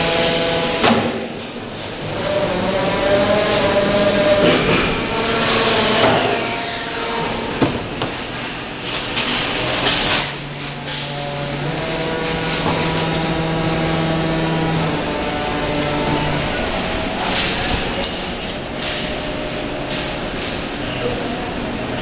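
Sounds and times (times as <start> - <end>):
machinery hum and whine: 0.0 - 22.0.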